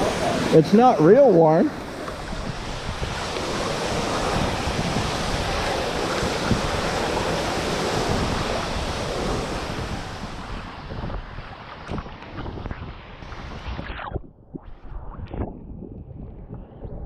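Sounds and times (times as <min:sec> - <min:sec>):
water rushing: 0:00.0 - 0:14.1.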